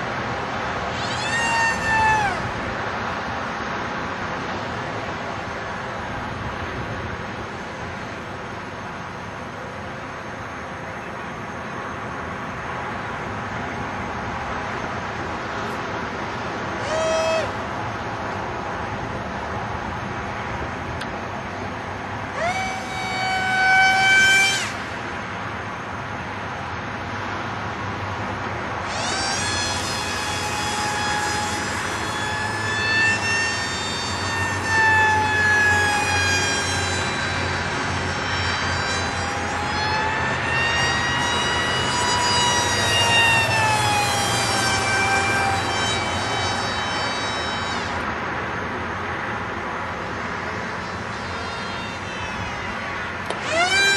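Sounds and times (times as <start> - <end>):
electric motor and propeller whining: 0.0 - 53.9
steady background hiss: 0.0 - 53.9.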